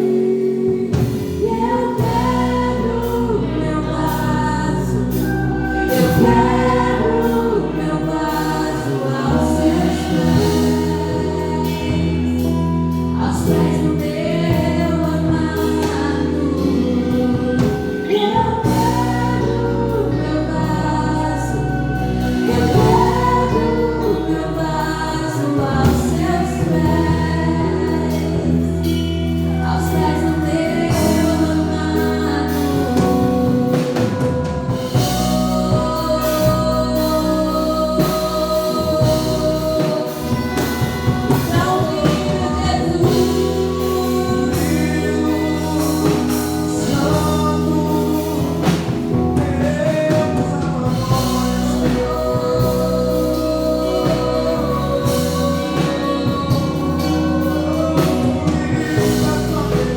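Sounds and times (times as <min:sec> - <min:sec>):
band playing: 0:00.0 - 0:59.9
people singing together: 0:00.0 - 0:59.9.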